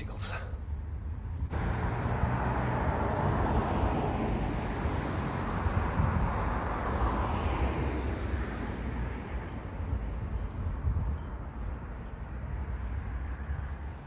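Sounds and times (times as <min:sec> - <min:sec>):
road traffic rushing: 0:00.0 - 0:14.0.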